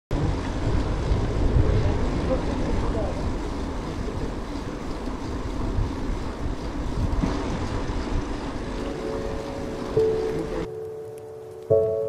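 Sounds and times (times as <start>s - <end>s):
wind buffeting microphone: 0.1s - 10.7s.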